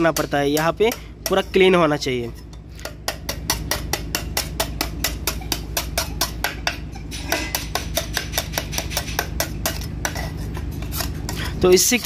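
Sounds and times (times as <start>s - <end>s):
steel scraper scraping concrete: 0.0s - 12.0s.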